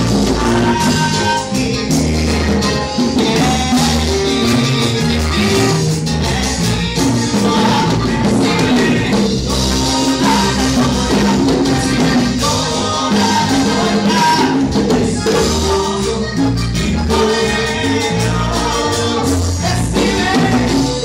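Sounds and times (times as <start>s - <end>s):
bass line: 0.0s - 21.0s
congas: 0.0s - 21.0s
drum kit: 0.0s - 21.0s
man singing into microphone: 0.0s - 21.0s.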